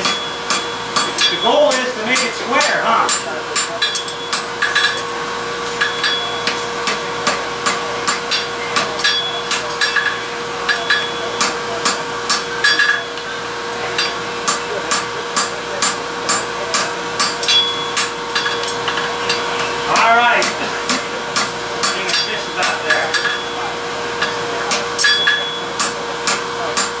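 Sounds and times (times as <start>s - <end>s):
hammer striking steel on anvil: 0.0s - 5.1s, 5.7s - 27.0s
steady hum: 0.0s - 27.0s.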